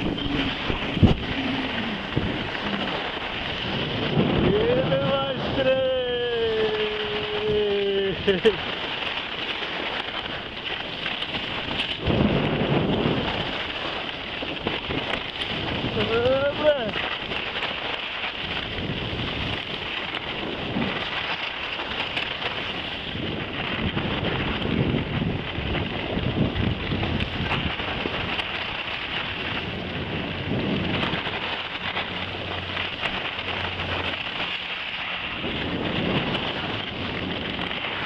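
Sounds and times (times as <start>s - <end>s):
skis scraping over snow: 0.0s - 38.0s
wind buffeting microphone: 0.0s - 38.0s.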